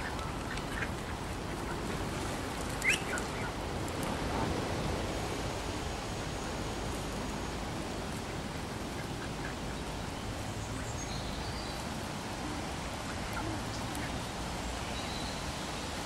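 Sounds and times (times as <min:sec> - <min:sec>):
pigeons and ducks: 0:00.0 - 0:04.8, 0:07.9 - 0:16.0
outdoor background noise: 0:00.0 - 0:16.0.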